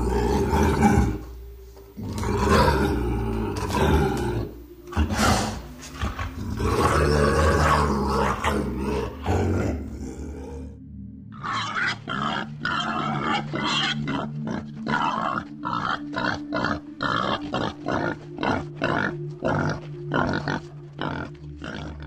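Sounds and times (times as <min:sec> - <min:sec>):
pig grunting: 0:00.0 - 0:01.3, 0:02.0 - 0:22.0
soft background music: 0:00.0 - 0:22.0.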